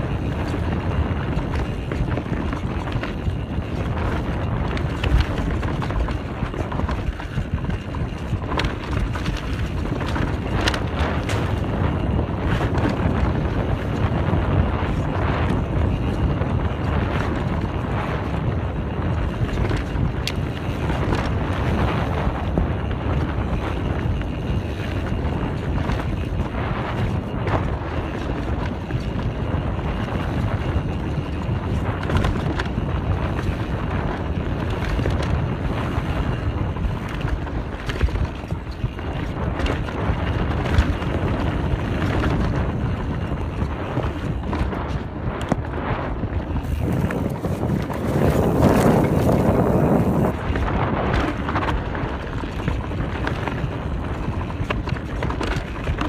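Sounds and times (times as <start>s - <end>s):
bike knocks and rattles: 0.0s - 56.0s
tyres rolling on dirt trail: 0.0s - 56.0s
wind rushing over microphone: 0.0s - 56.0s.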